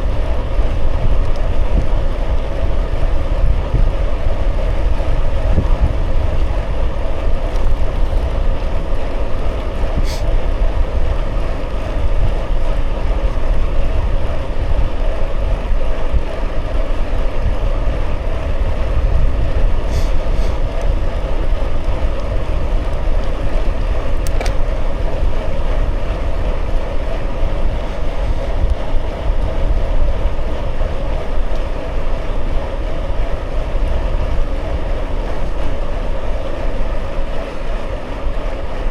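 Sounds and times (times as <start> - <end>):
bicycle tyres rolling on road: 0.0 - 38.9
wind rumble on microphone: 0.0 - 38.9.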